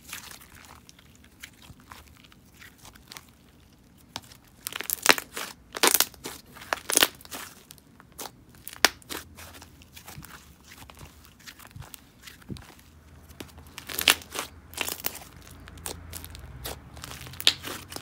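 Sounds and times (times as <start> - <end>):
hands squishing slime: 0.0 - 18.0.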